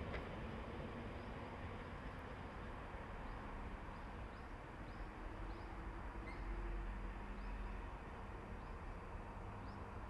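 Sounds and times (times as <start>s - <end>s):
electric train rumbling: 0.0s - 8.6s.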